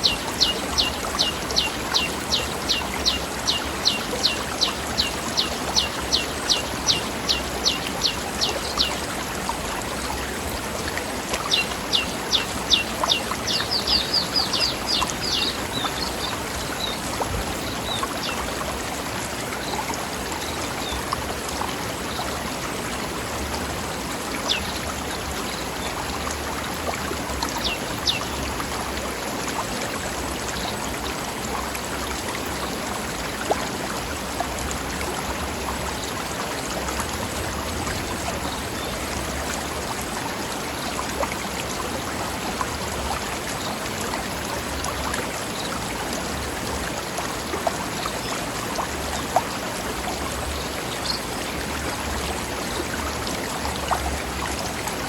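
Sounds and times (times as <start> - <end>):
river flowing over rocks: 0.0 - 55.0
water splashes: 0.0 - 55.0.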